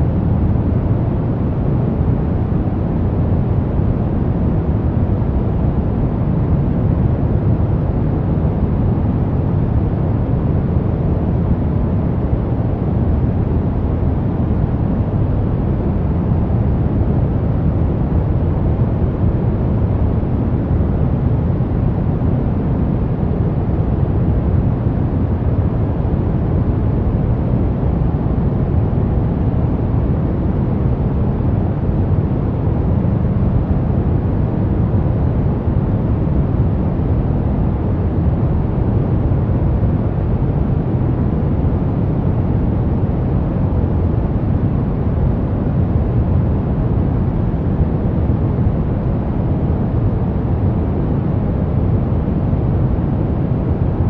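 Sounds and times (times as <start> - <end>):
deep rushing brown noise: 0.0 - 54.0.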